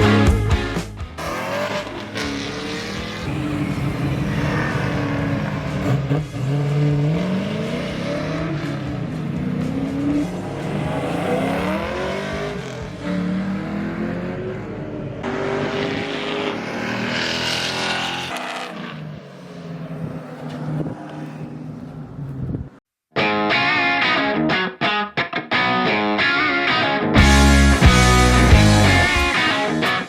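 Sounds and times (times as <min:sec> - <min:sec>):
car engine revving: 0:00.0 - 0:22.8, 0:27.2 - 0:30.0.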